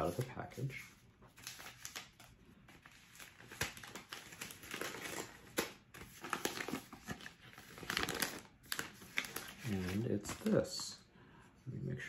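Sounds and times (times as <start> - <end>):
gift wrapping paper rustling: 0.0 - 11.0.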